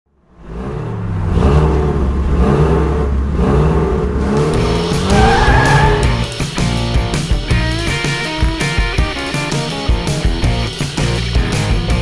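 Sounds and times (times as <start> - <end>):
car engine idling and revving: 0.1 - 12.0.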